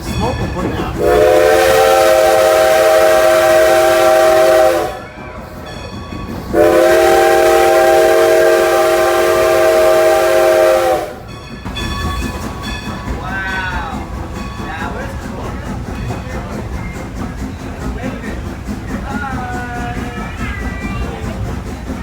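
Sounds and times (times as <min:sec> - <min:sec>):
steam locomotive chime whistle: 0:00.0 - 0:22.0.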